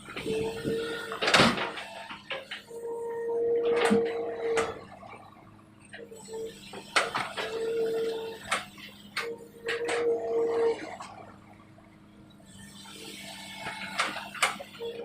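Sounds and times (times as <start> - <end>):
excavator engine hum: 0.0 - 15.0
hydraulic whine: 0.0 - 15.0.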